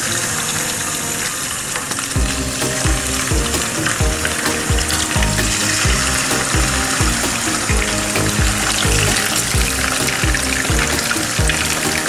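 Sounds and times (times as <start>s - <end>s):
fish sizzling in hot oil: 0.0s - 12.0s
background music with steady beat: 2.2s - 12.0s.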